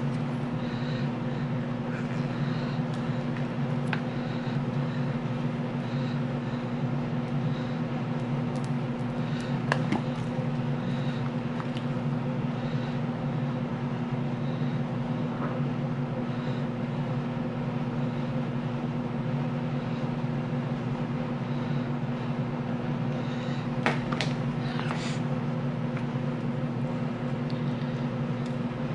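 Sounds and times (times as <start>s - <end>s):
low mechanical motor hum: 0.0s - 28.9s.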